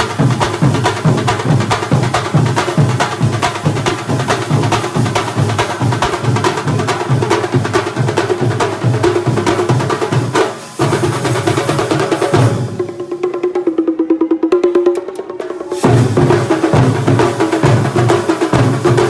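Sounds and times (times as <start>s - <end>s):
fast drum strokes: 0.0s - 19.0s.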